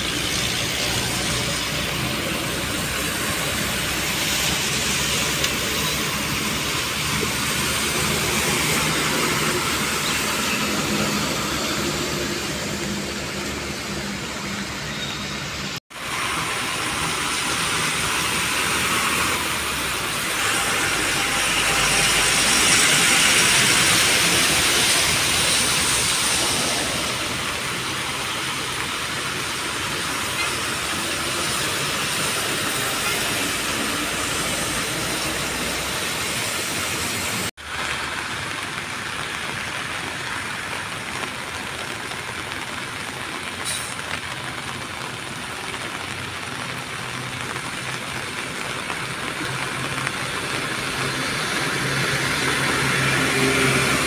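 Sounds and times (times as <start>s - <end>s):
tyres hissing through water: 0.0s - 54.0s.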